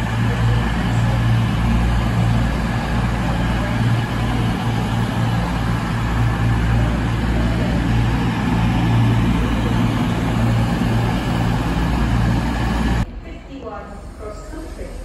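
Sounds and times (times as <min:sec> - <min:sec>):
diesel train engines droning: 0:00.0 - 0:15.0.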